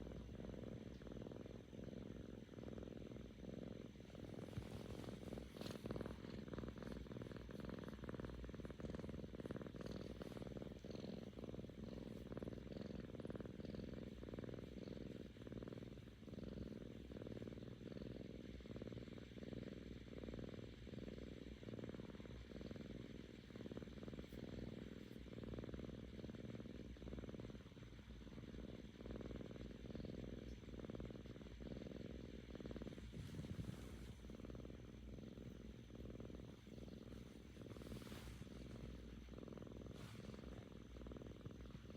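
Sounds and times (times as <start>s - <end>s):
kitten purring: 0.0s - 41.9s.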